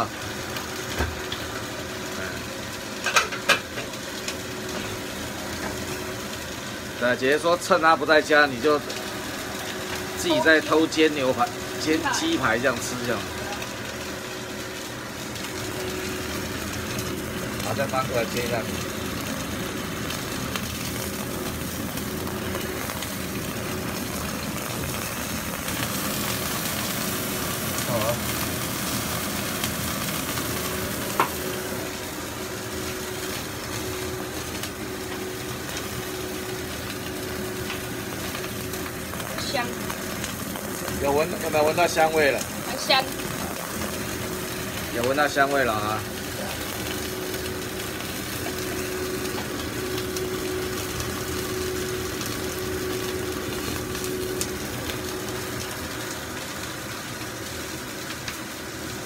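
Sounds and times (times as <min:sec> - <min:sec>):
chicken sizzling in a frying pan: 0:00.0 - 0:59.0
steady hum: 0:00.0 - 0:59.0.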